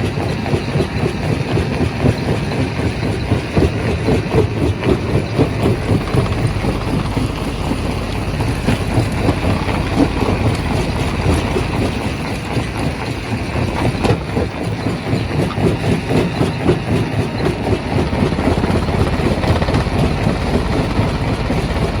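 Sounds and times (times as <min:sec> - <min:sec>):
rock crusher machinery drone: 0:00.0 - 0:22.0.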